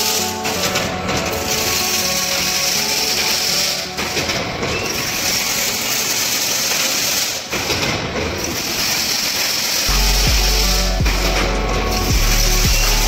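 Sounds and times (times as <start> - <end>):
fence weaving machine running: 0.0 - 13.0.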